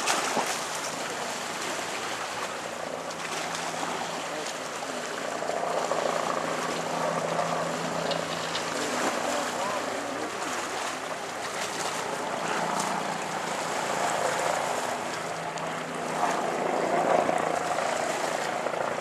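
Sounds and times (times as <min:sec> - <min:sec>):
boat engine hum: 0:00.0 - 0:19.0
water and wind noise: 0:00.0 - 0:19.0.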